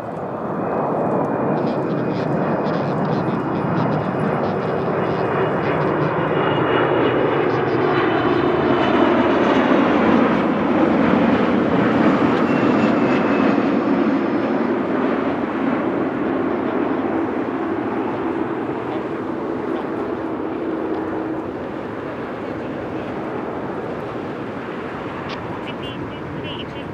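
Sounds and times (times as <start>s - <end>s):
jet airliner passing overhead: 0.0s - 26.9s.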